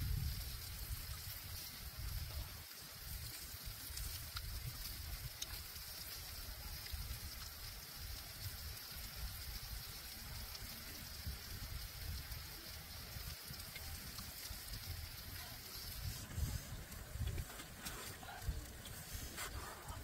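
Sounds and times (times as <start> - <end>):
hiss: 0.0 - 20.0.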